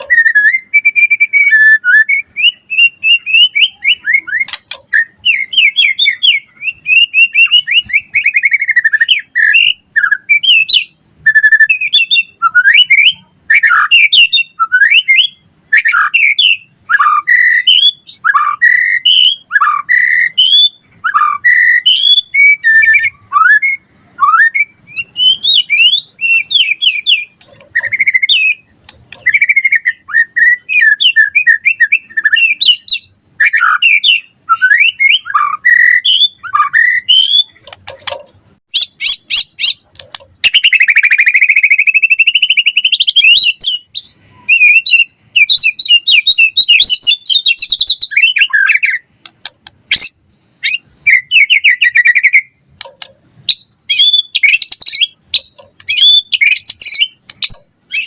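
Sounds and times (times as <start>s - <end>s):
bird singing whistled phrases: 0.0s - 37.6s, 38.7s - 49.1s, 49.9s - 52.6s, 53.5s - 58.0s.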